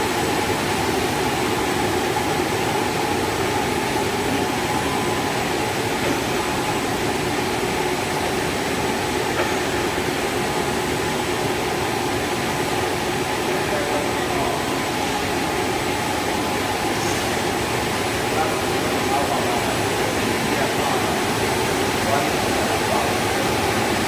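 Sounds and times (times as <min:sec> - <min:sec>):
extrusion line mechanical noise: 0:00.0 - 0:24.0.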